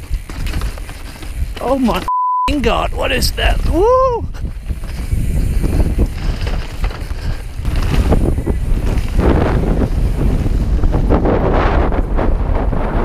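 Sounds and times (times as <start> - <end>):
mountain bike rumble on rough trail: 0.0 - 2.1, 2.7 - 13.0
wind buffeting microphone: 2.6 - 13.0.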